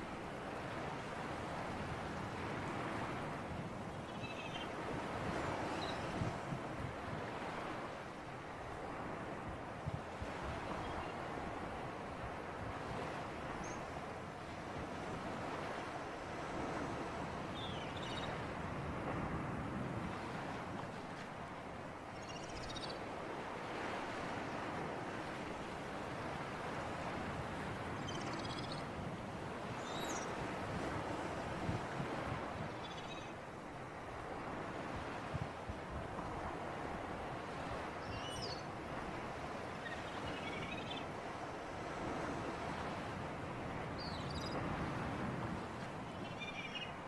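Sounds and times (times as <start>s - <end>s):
sea surf: 0.0s - 47.0s.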